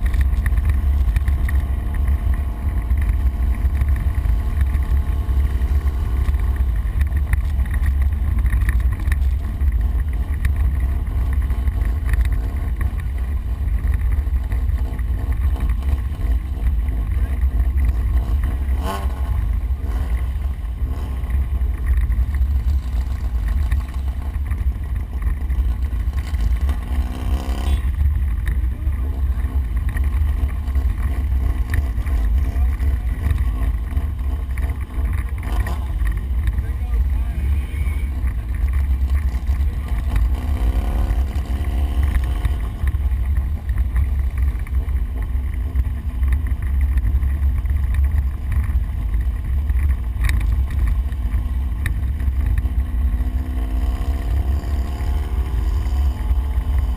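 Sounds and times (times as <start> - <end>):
engine rumbling under load: 0.0 - 56.9.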